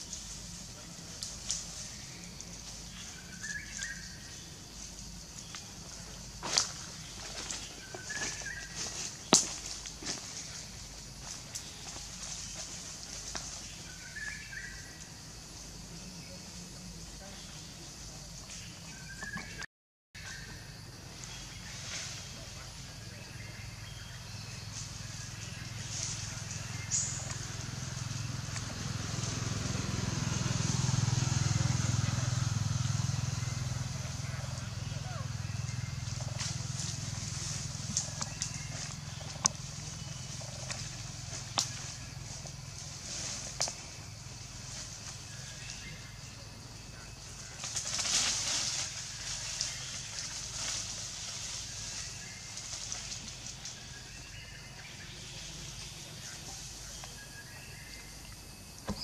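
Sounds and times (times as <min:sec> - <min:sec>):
engine pulsing hum: 0:00.0 - 0:19.6, 0:20.3 - 0:59.0.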